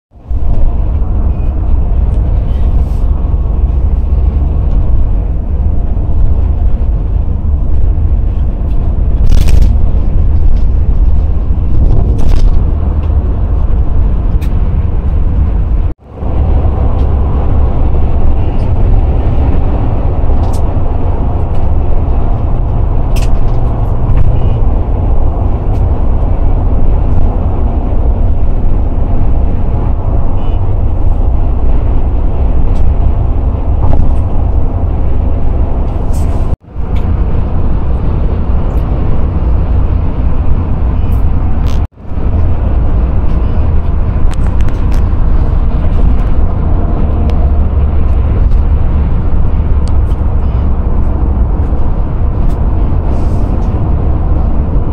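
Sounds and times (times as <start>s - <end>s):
car cabin road rumble: 0.1s - 54.9s.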